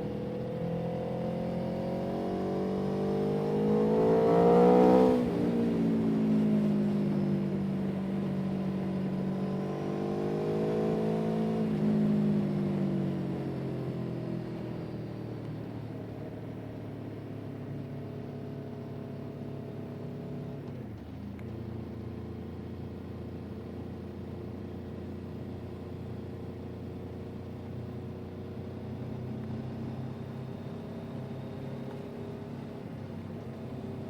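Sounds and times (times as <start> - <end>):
vehicle engine running: 2.8 - 34.0.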